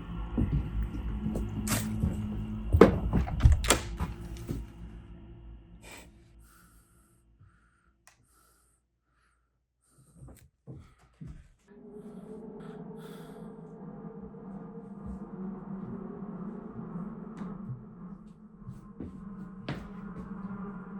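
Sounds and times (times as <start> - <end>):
low drone: 0.0 - 8.6, 11.7 - 20.9.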